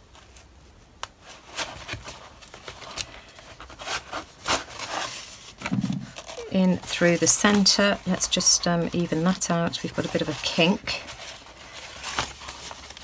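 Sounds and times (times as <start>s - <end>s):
paper and cloth rustling: 1.2s - 13.0s.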